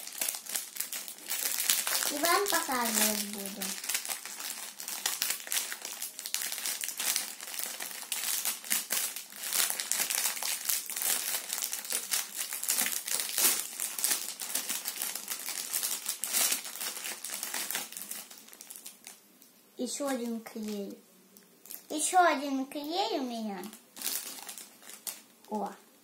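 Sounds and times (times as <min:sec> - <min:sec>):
plastic bag crinkling: 0:00.0 - 0:19.2, 0:23.5 - 0:25.7.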